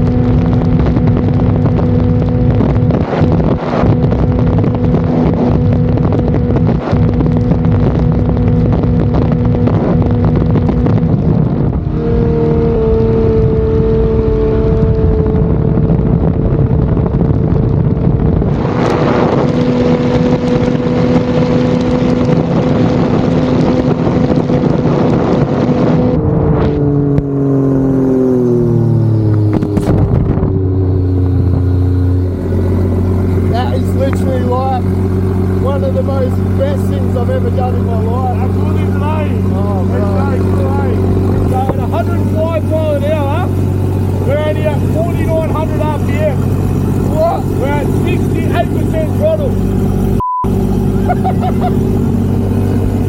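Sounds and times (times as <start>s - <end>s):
boat engine running hard: 0.0s - 53.0s
steady rushing noise: 0.0s - 53.0s.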